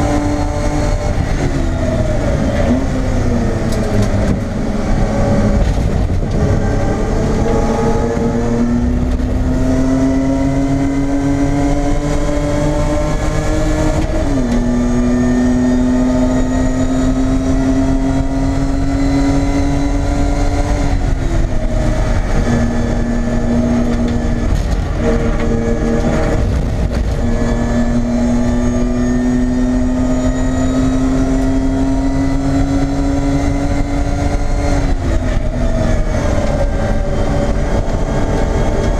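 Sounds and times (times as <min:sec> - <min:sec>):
race car engine at high revs: 0:00.0 - 0:38.9.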